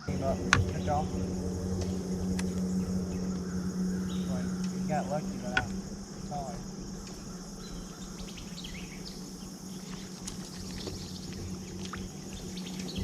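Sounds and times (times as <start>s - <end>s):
bird chirps: 0.0s - 13.0s
insect chorus: 0.0s - 13.0s
low steady hum: 0.0s - 13.0s.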